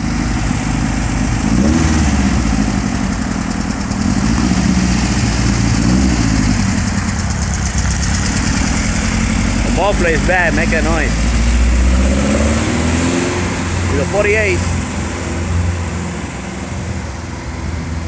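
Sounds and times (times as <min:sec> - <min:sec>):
car engine idling with throttle blips: 0:00.0 - 0:18.0.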